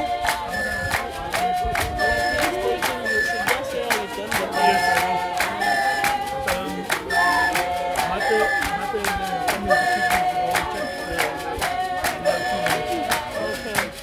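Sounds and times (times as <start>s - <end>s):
group singing in unison: 0.0s - 14.0s
hand claps: 0.0s - 14.0s.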